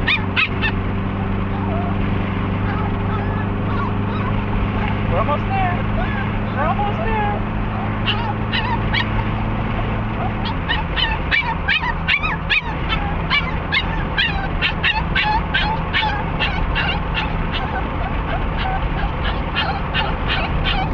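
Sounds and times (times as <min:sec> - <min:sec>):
dog whining and yipping: 0:00.0 - 0:02.0, 0:02.6 - 0:04.4, 0:07.7 - 0:20.9
car engine hum and road noise: 0:00.0 - 0:20.9.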